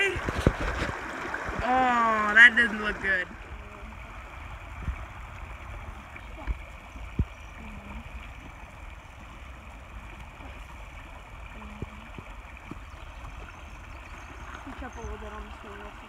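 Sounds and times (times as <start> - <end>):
creek water rushing over rocks: 0.0 - 16.0
low rumble: 0.2 - 16.0.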